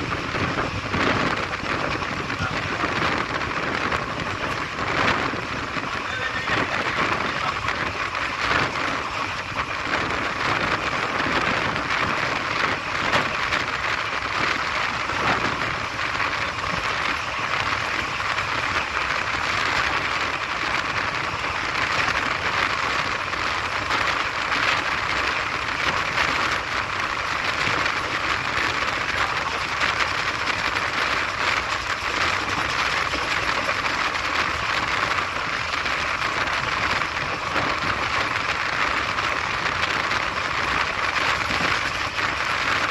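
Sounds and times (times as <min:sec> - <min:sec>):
train wind and wheels rushing: 0:00.0 - 0:42.9.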